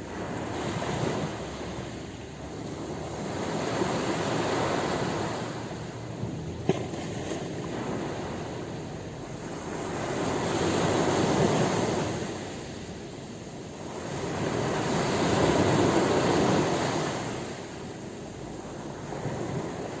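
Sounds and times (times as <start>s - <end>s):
ocean waves rushing in: 0.0s - 20.0s.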